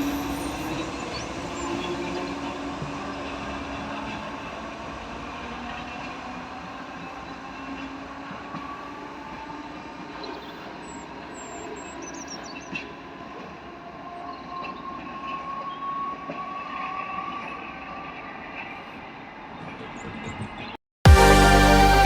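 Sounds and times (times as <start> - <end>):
electric train whining past: 0.0 - 19.4.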